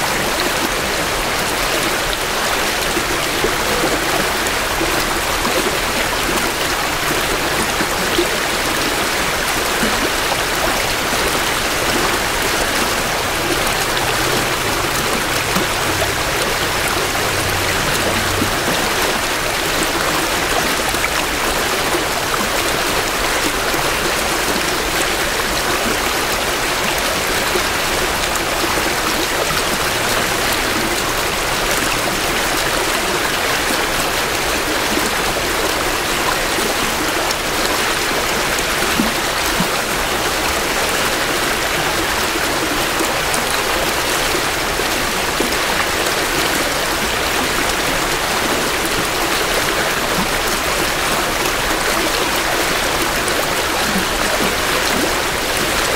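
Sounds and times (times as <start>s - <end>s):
stream water flowing over rocks: 0.0s - 55.9s.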